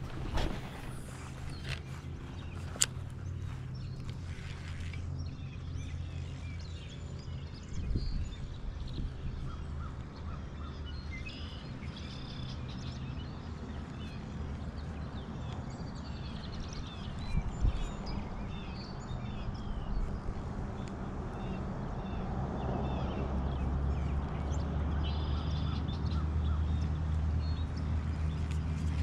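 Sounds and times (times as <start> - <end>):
birds chirping: 0.0 - 29.0
low engine drone: 0.0 - 29.0.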